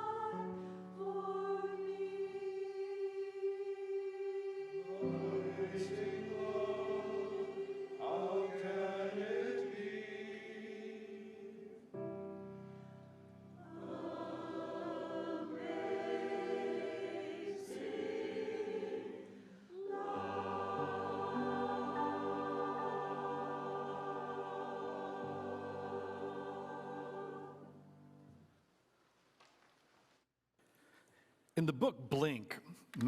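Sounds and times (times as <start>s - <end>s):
choir singing sustained chords: 0.0s - 28.4s.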